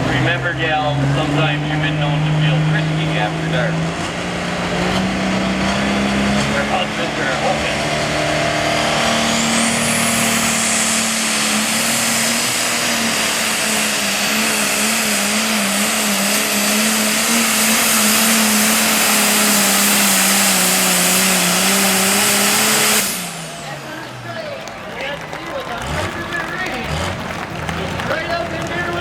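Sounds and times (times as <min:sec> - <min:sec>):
diesel engine at high revs: 0:00.0 - 0:29.0.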